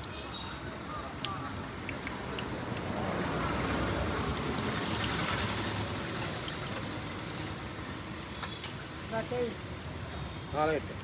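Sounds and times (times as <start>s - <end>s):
deep-frying sizzle in oil: 0.0s - 11.0s.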